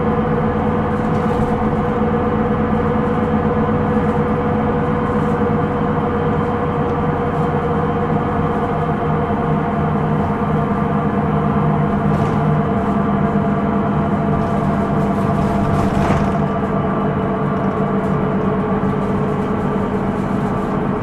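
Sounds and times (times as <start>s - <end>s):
bus cabin drone with humming tones: 0.0s - 21.0s.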